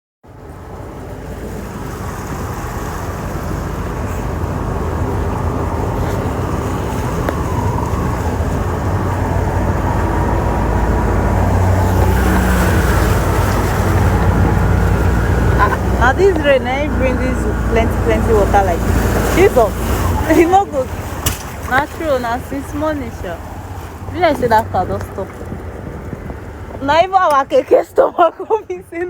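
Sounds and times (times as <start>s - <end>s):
motor vehicle running: 0.2s - 29.0s
road noise: 0.2s - 29.0s
low rumble: 0.3s - 27.7s.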